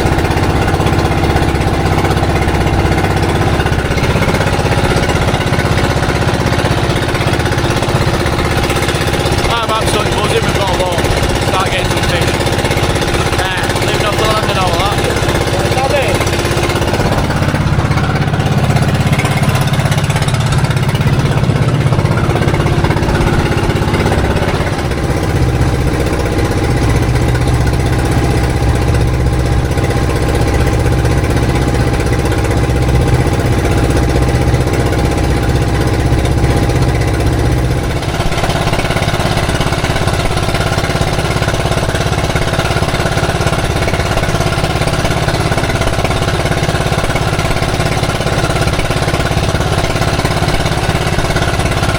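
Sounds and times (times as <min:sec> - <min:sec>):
boat engine chugging: 0:00.0 - 0:51.9.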